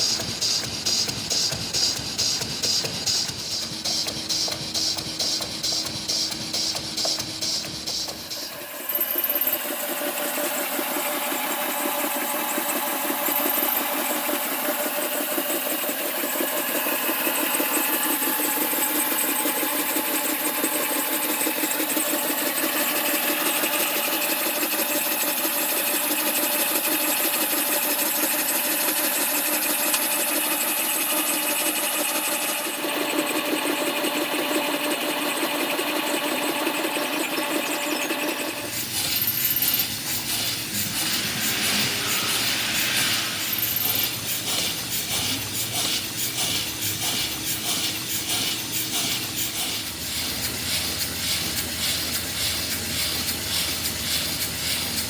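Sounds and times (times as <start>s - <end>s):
small model engine running: 0.0s - 55.0s.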